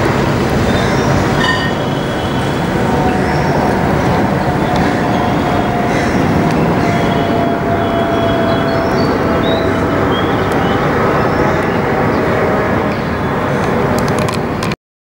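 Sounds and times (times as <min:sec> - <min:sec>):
jet airliner roar overhead: 0:00.0 - 0:14.8.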